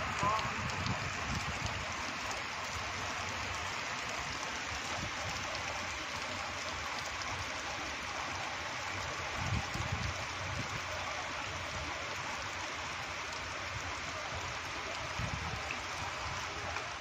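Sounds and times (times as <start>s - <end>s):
rain falling on asphalt: 0.0s - 17.0s.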